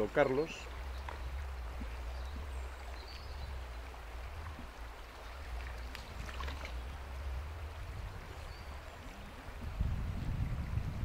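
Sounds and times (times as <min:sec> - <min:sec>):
river water running: 0:00.0 - 0:11.0
deep low rumble: 0:00.6 - 0:11.0.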